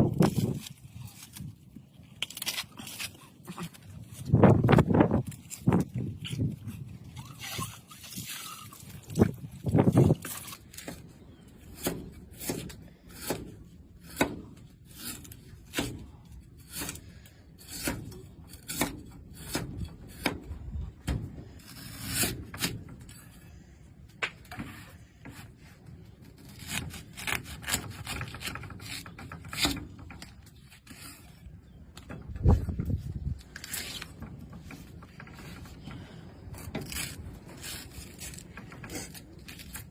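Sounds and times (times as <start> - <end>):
rough scraping on wood: 0.0 - 20.7, 21.4 - 39.9.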